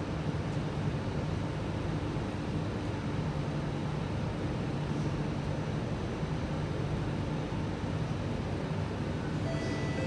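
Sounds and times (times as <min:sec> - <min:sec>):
metro train humming and hissing: 0:00.0 - 0:10.0.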